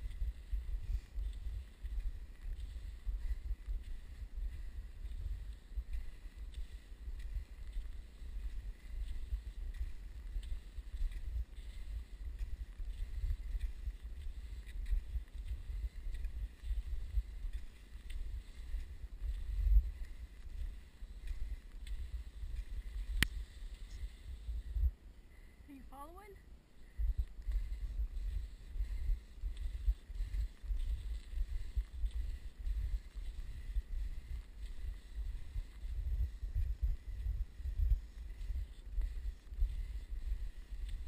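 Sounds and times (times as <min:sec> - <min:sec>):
wind buffeting microphone: 0:00.0 - 0:25.1, 0:26.8 - 0:41.0
skis gliding on snow: 0:00.0 - 0:25.6, 0:26.8 - 0:41.0.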